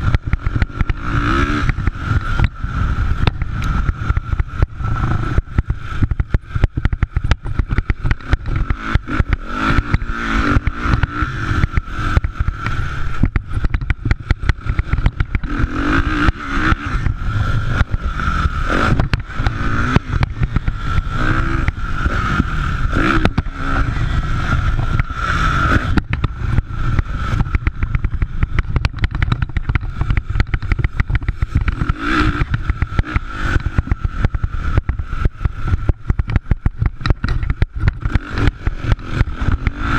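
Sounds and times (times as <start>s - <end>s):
dirt bike engines revving: 0.0s - 39.9s
rumbling and crackling noise: 0.0s - 39.9s.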